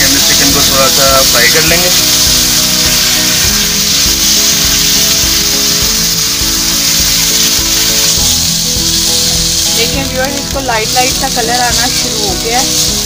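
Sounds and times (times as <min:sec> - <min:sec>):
background music: 0:00.0 - 0:13.0
chicken and onion sizzling in a pan: 0:00.0 - 0:13.0.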